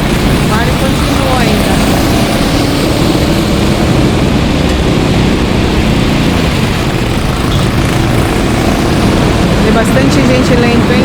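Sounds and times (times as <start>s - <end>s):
go-kart engines running: 0.0s - 11.0s.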